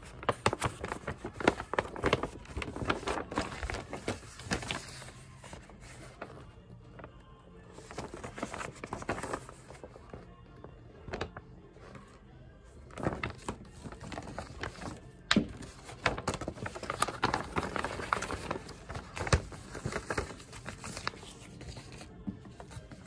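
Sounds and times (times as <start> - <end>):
stiff paper rustling and crackling: 0.0 - 23.0.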